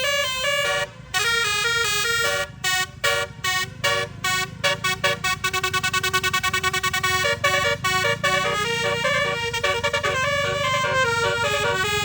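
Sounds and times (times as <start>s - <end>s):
musical bus horn blasts: 0.0s - 12.0s.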